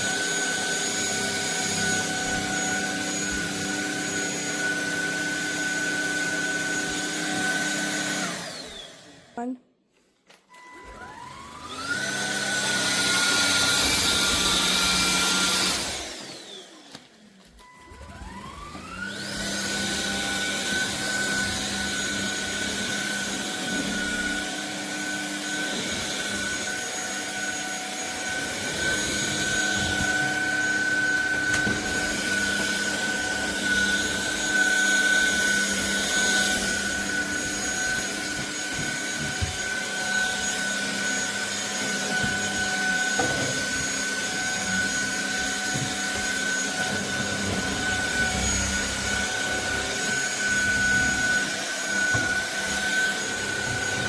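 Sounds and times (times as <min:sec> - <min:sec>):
vacuum motor whining: 0:00.0 - 0:09.4, 0:10.5 - 0:54.0.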